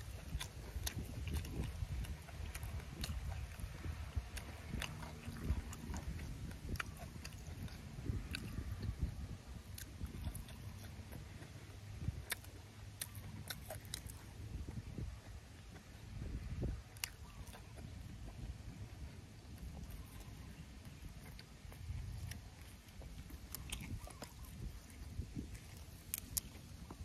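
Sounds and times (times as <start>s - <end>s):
wet mouth clicks and lip smacks: 0.0s - 15.0s, 16.6s - 18.4s, 19.5s - 27.0s
man chewing: 0.0s - 27.0s
steady low rumble: 0.0s - 27.0s.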